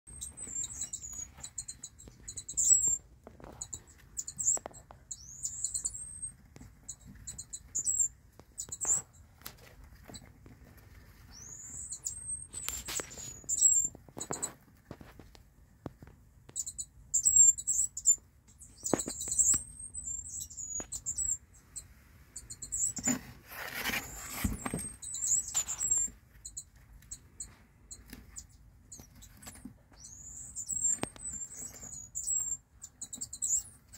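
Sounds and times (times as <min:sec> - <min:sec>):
gerbils squeaking: 0:00.1 - 0:33.9.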